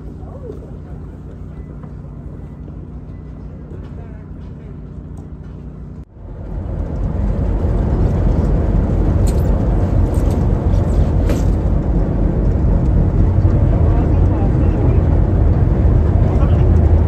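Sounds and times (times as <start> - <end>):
ship engines rumbling: 0.0 - 17.0.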